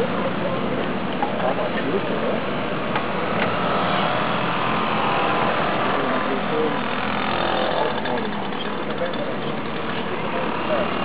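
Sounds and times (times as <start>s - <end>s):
moped engines buzzing: 0.0s - 11.0s.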